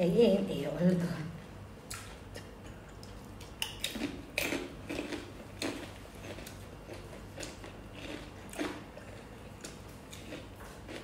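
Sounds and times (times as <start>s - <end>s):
chewing food with crunches: 1.9s - 11.0s.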